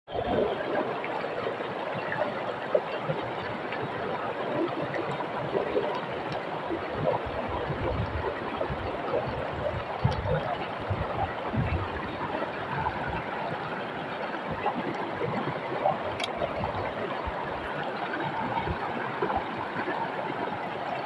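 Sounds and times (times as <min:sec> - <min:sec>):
river flowing over rocks: 0:00.2 - 0:21.0.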